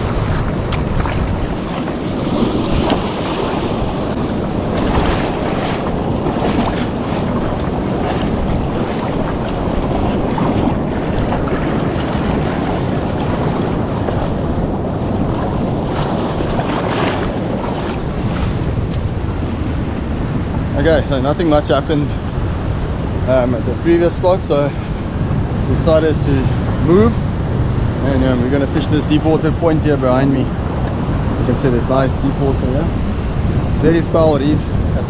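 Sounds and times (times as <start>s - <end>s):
ocean surf: 0.0s - 35.0s
wind buffeting microphone: 0.0s - 35.0s.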